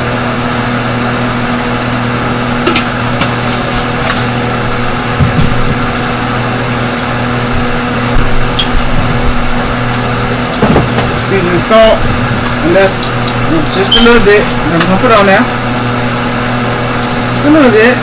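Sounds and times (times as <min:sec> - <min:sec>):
range hood fan humming: 0:00.0 - 0:18.0.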